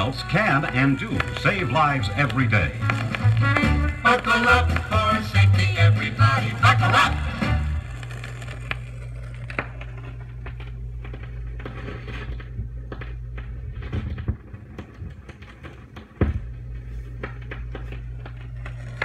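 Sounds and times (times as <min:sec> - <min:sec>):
low hum: 0:00.0 - 0:19.0
vinyl record crackles and pops: 0:00.0 - 0:19.0.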